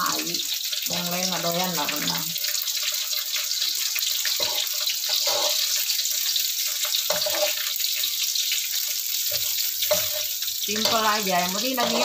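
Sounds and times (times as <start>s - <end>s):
vegetables sizzling in hot oil: 0.0s - 12.0s
metal spatula scraping wok: 1.8s - 12.0s.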